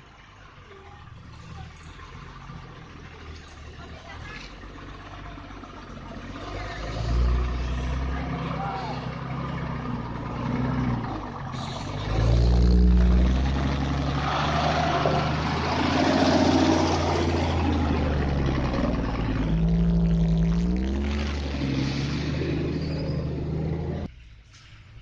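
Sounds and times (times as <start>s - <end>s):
truck engine revving: 0.5s - 24.1s.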